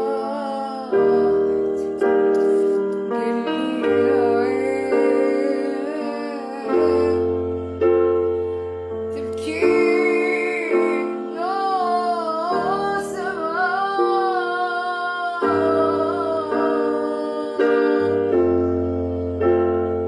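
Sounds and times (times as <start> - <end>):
woman singing: 0.0 - 8.1, 9.1 - 19.7
piano chords: 0.0 - 20.0.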